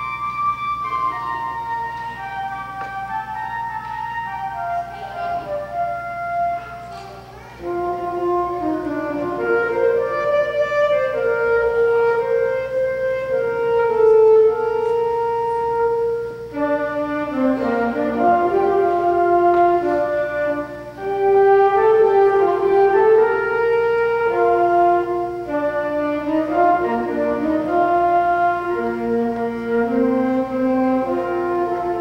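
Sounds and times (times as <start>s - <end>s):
flute melody: 0.0s - 32.0s
saxophone melody: 0.0s - 32.0s.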